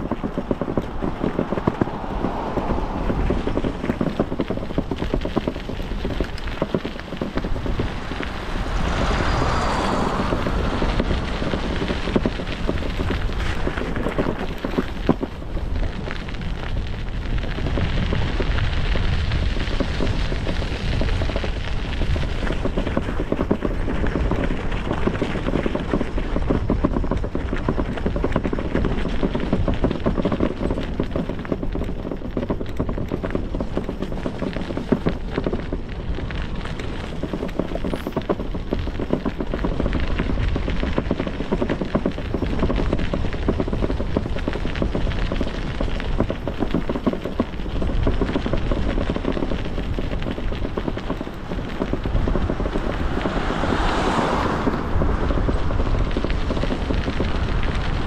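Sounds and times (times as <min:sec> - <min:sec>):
bicycle rolling on road: 0:00.0 - 0:58.0
wind over microphone: 0:00.0 - 0:58.0.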